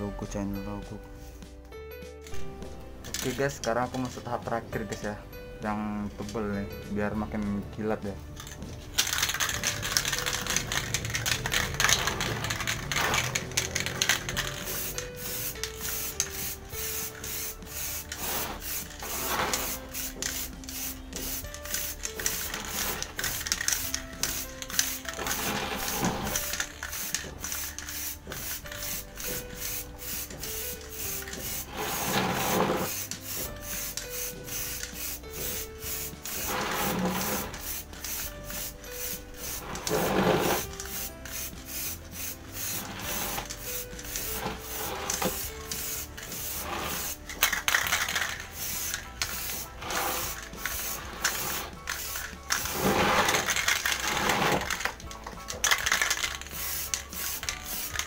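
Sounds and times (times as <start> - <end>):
background music with steady beat: 0.0 - 58.0
aerosol spray can hissing: 8.4 - 58.0.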